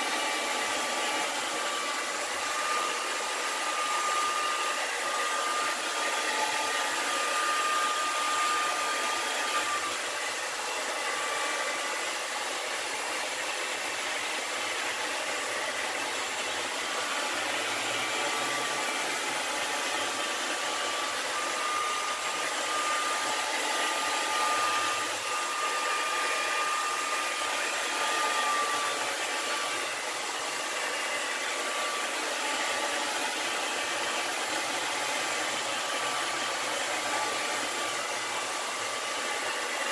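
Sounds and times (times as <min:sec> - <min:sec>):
heat gun blowing hot air: 0:00.0 - 0:39.9.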